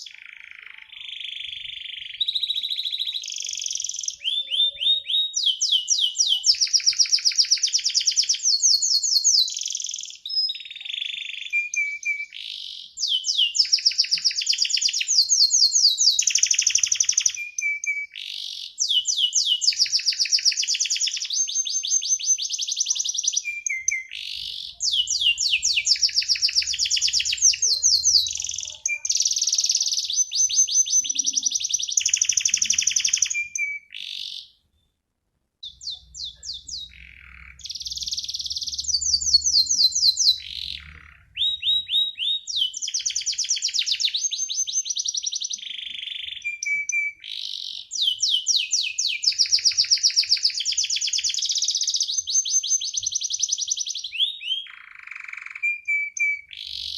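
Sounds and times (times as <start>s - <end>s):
canary singing trills: 0.0s - 35.0s, 35.6s - 56.9s.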